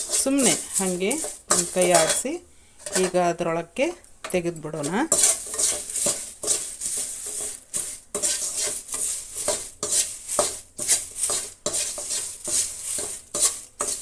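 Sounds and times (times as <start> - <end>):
metal spatula scraping pan: 0.0 - 3.4, 4.2 - 14.0
light oil sizzle: 0.0 - 14.0.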